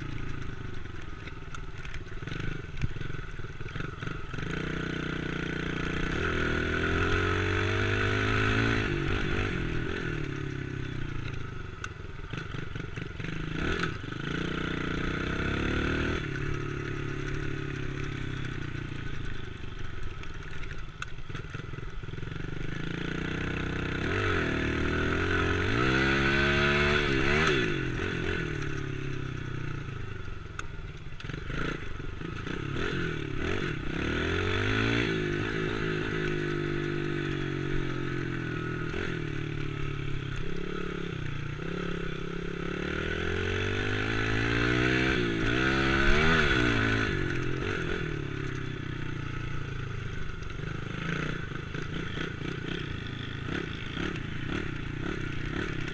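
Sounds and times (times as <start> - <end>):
dirt bike engine revving: 1.8 - 11.4, 12.2 - 20.5, 21.2 - 29.1, 31.2 - 55.9.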